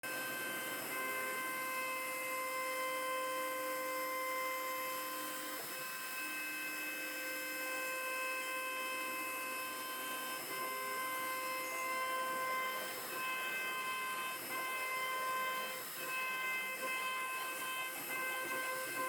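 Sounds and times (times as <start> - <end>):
router whining: 0.1 - 19.0.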